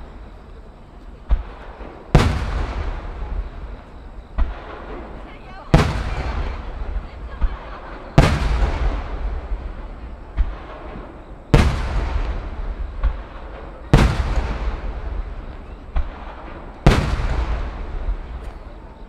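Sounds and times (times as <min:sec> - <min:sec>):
rolling echo: 0:00.0 - 0:19.0
firework shells booming: 0:01.2 - 0:19.0.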